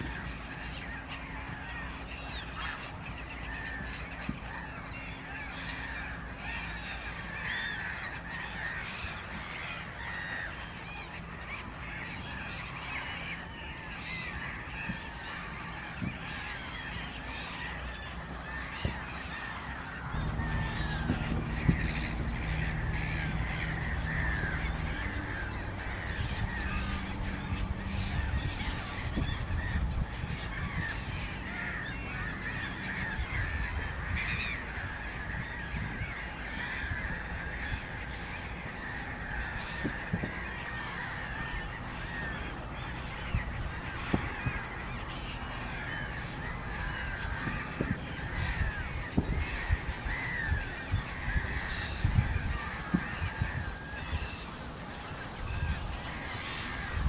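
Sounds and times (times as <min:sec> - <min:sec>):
waterbirds calling: 0:00.0 - 0:57.0.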